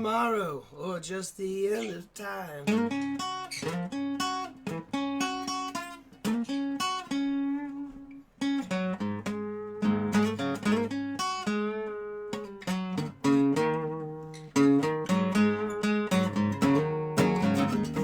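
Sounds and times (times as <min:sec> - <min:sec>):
resonator guitar blues: 0:01.7 - 0:18.0.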